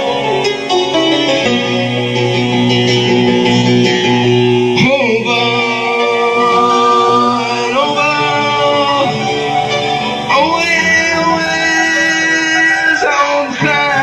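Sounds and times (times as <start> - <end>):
band playing sliding melody: 0.0 - 14.0.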